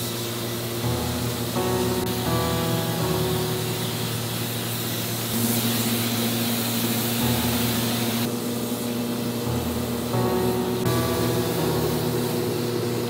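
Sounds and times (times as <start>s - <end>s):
paint spray gun hissing: 0.0s - 13.0s
steady low hum: 0.0s - 13.0s.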